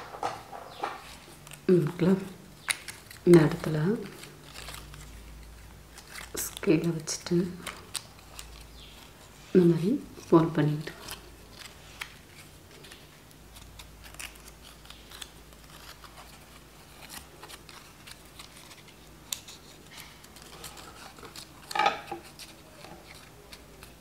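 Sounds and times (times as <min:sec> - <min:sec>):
paper rustling and ticking: 0:00.0 - 0:24.0.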